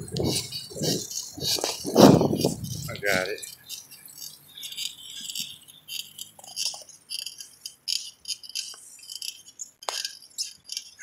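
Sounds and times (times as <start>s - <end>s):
bicycle rattling and jangling: 0.0s - 11.0s.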